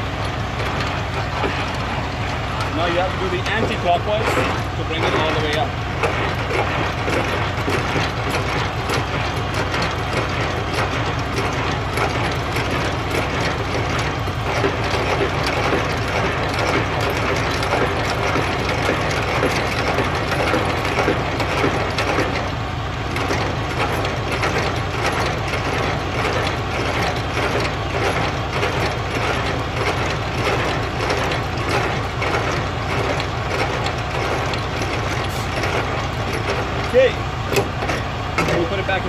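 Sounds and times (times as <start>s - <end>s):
crank gearbox clicking and ratcheting: 0.0s - 39.0s.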